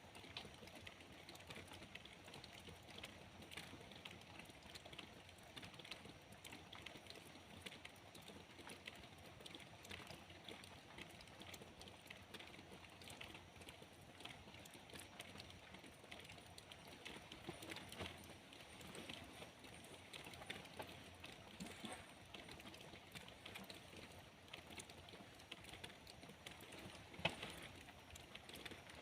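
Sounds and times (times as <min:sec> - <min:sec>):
faint rain pattering: 0:00.0 - 0:29.0.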